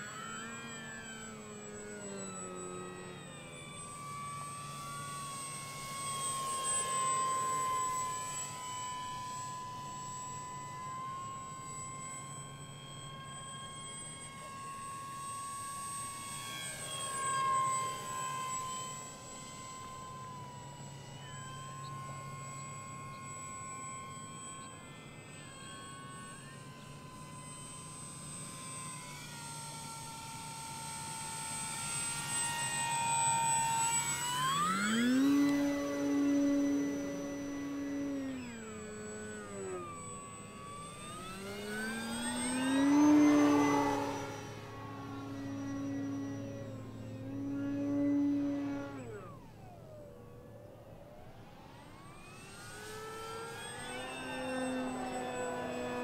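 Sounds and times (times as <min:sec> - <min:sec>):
electric model airplane motor whining: 0:00.0 - 0:56.0.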